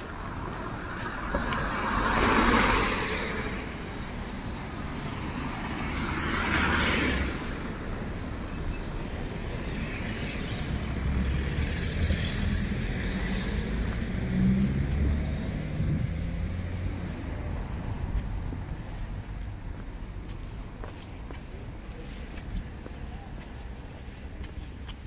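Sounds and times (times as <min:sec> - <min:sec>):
car passing: 0:00.0 - 0:08.5, 0:09.1 - 0:24.9
low rumble of vehicles: 0:00.0 - 0:25.0.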